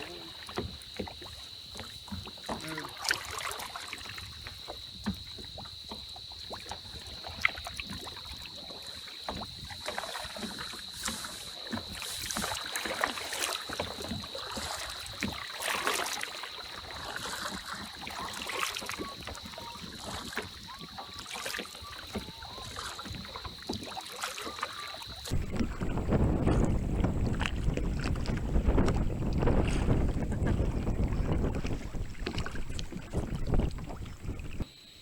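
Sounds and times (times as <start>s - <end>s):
paddle splashing in water: 0.0s - 34.7s
water and wind hiss: 0.0s - 35.0s.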